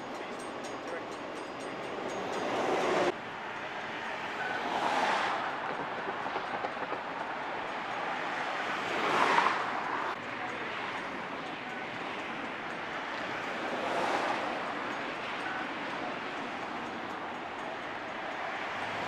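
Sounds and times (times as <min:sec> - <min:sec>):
freeway traffic road noise: 0:00.0 - 0:19.0
vehicle passing: 0:01.9 - 0:19.0.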